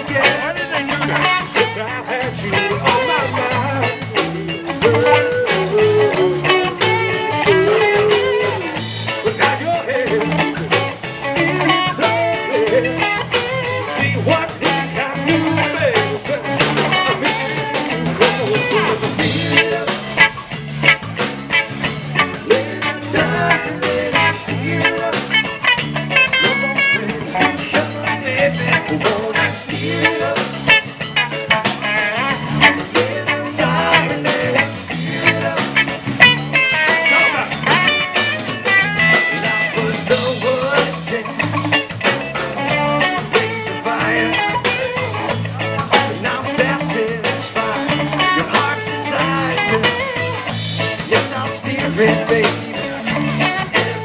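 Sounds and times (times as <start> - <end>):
acoustic guitar: 0.0 - 54.0
bass guitar: 0.0 - 54.0
drum kit beat: 0.0 - 54.0
electric guitar: 0.0 - 54.0.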